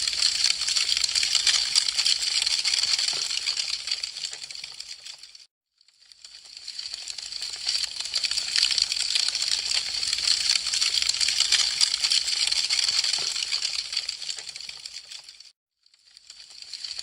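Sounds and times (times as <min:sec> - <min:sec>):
wood fire crackling: 0:00.0 - 0:05.4, 0:06.7 - 0:15.4.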